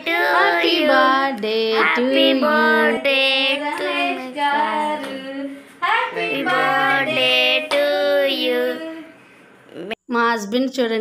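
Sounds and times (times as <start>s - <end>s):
child singing: 0.0s - 9.1s
woman singing: 0.0s - 9.2s.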